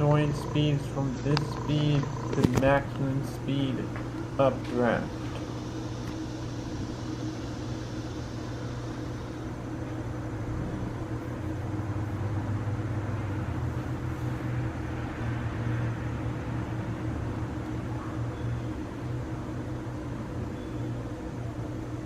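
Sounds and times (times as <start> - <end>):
ceiling fan humming: 0.0 - 22.0.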